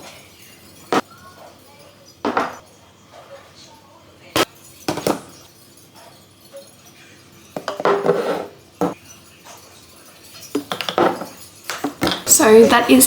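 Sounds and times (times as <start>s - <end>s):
glass dishes clinking: 0.0s - 3.7s, 4.3s - 13.0s.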